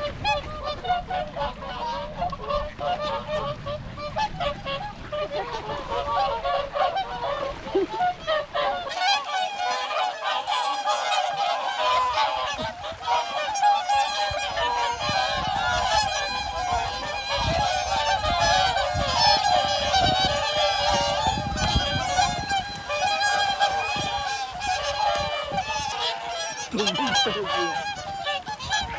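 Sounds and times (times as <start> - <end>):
flock of swans calling: 4.4 - 28.9.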